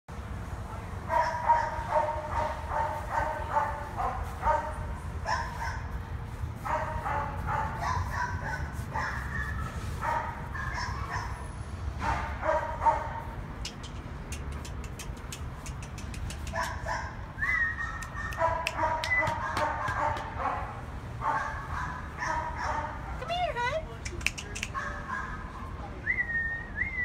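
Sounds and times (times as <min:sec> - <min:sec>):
dogs barking: 0:01.1 - 0:06.0, 0:06.6 - 0:23.3, 0:24.6 - 0:25.7.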